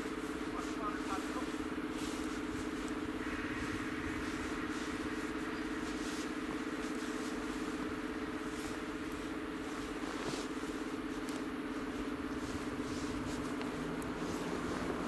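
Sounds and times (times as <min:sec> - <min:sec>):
electric locomotive humming: 0:00.0 - 0:15.0.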